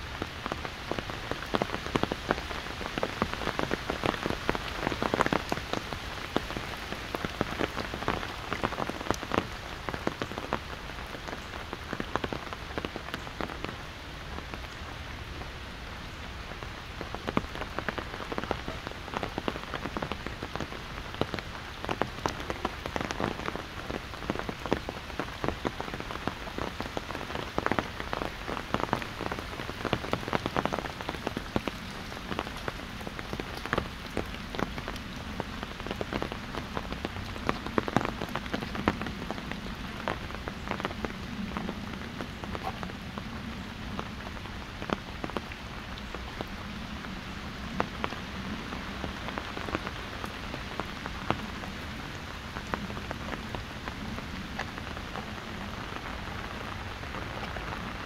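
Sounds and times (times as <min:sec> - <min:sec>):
rain pattering on an umbrella: 0:00.0 - 0:58.0.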